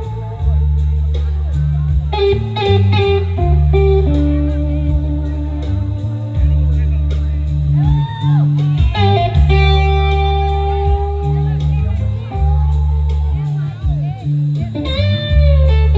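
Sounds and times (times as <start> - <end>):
electric guitar bent notes: 0.0 - 15.9
live rock band playing: 0.0 - 15.9.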